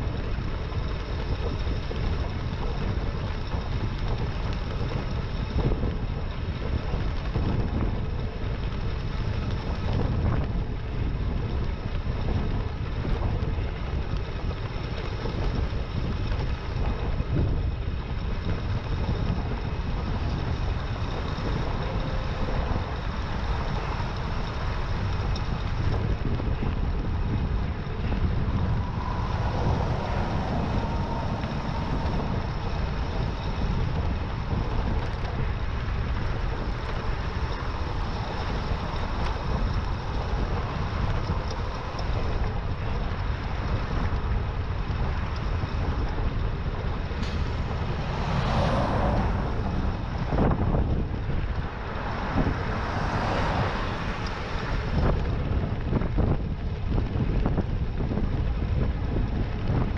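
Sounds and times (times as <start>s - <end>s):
faint steady whine: 0.0s - 48.0s
road noise: 0.0s - 59.9s
wind rushing over microphone: 0.0s - 59.9s.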